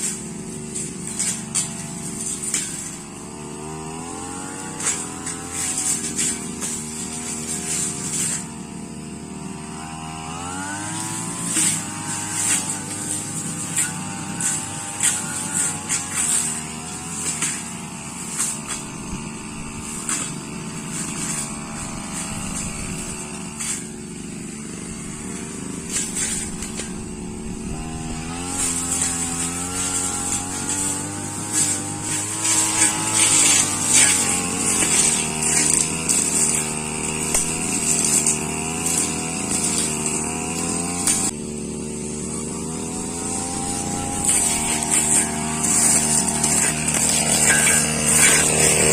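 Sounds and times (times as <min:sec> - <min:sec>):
blade ticking on stems: 0:00.0 - 0:48.9
brush cutter engine throttling: 0:00.0 - 0:48.9.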